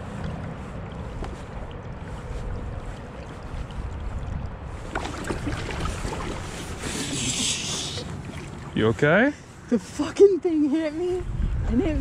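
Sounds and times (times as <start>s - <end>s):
wind rumble on microphone: 0.0s - 9.2s, 10.8s - 12.0s
river water flowing: 0.0s - 10.2s.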